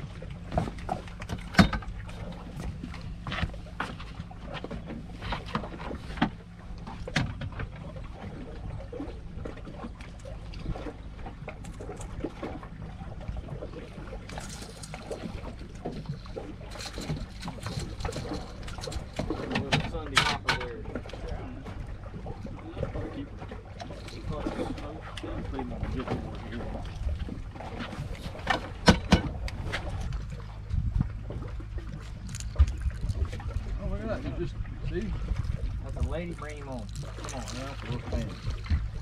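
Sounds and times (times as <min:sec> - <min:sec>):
boat engine low hum: 0:00.0 - 0:39.0.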